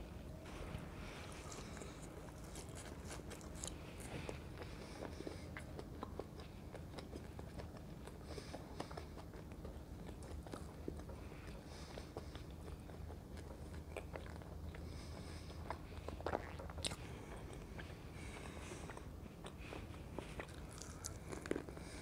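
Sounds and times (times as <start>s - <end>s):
chewing crispy fries: 0.6s - 22.0s.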